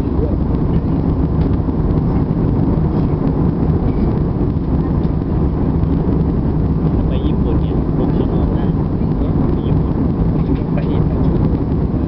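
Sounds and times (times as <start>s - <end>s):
airplane cabin engine noise: 0.0s - 12.0s.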